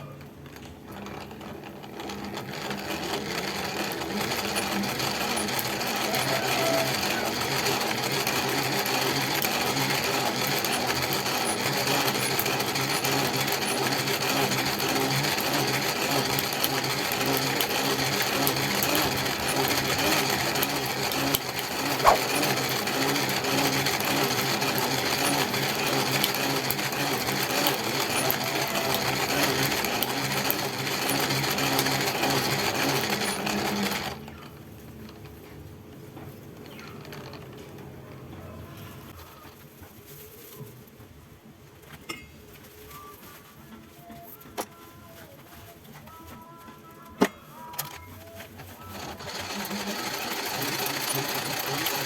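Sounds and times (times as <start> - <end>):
coil-winding machine clattering: 0.2 - 39.2, 47.2 - 52.0.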